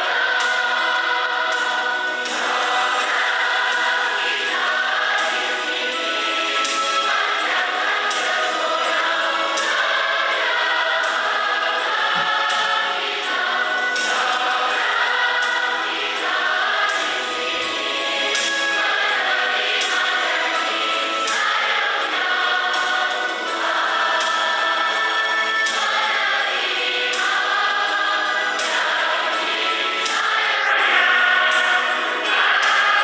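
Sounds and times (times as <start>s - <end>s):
congregation singing in harmony: 0.0s - 33.0s.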